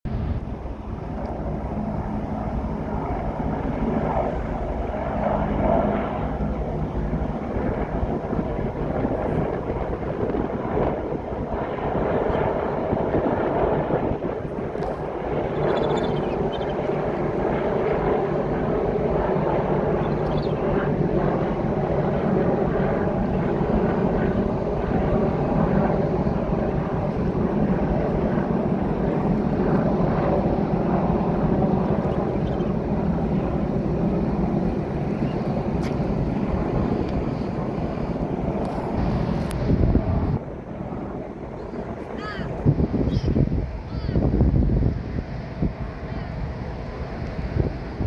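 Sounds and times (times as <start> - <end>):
helicopter engine and rotor drone: 0.0 - 48.0
wind noise on microphone: 0.1 - 48.0.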